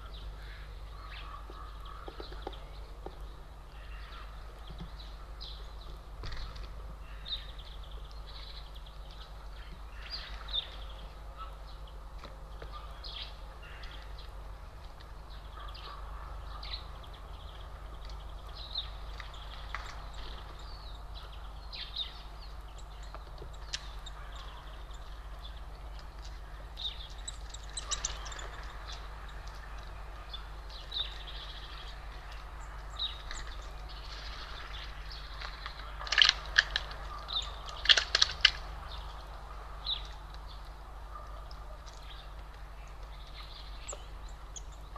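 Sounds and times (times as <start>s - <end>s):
songbirds chirping: 0.0s - 44.9s
steady low hum: 0.0s - 44.9s.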